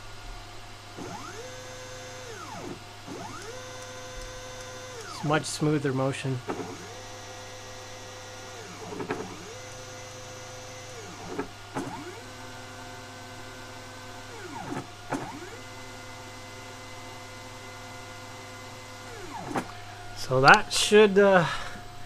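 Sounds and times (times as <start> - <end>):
stepper motors whining: 1.0 - 22.0.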